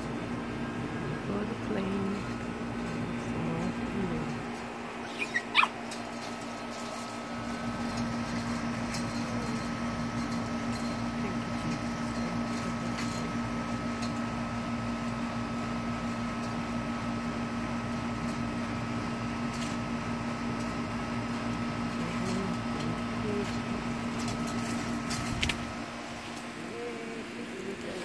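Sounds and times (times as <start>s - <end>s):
mechanical hum with whine: 0.0s - 28.0s.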